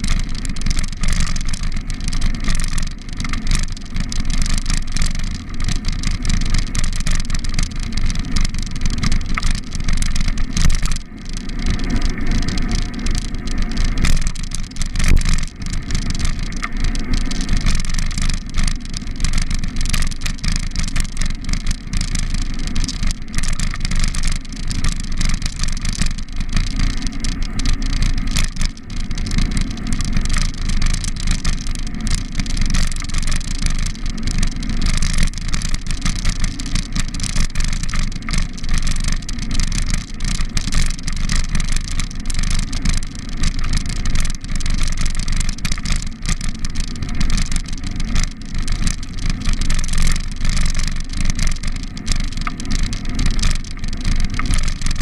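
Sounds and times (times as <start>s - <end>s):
bicycle bumps and rattles: 0.0s - 55.0s.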